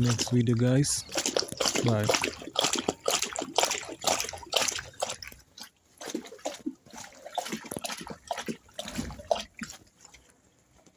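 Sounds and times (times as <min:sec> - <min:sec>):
rainwater dripping and splashing: 0:00.0 - 0:10.3.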